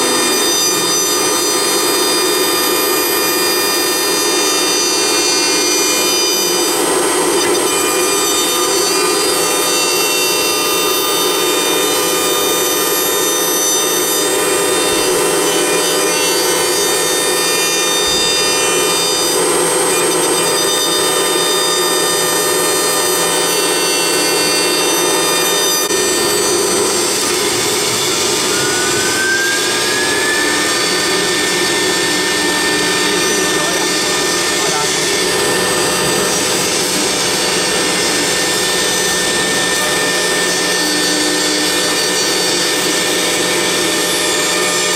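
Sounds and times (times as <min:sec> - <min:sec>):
router spindle whining: 0:00.0 - 0:44.9.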